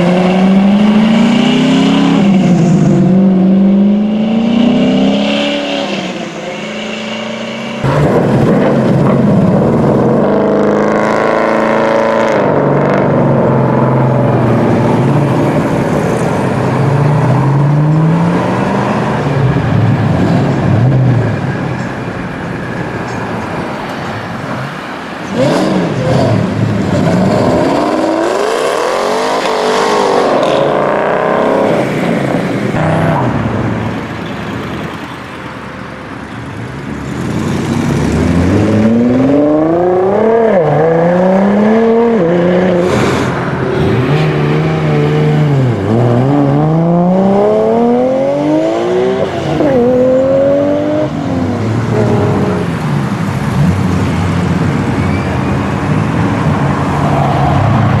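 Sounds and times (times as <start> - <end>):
muscle car engines accelerating: 0.0 - 58.0.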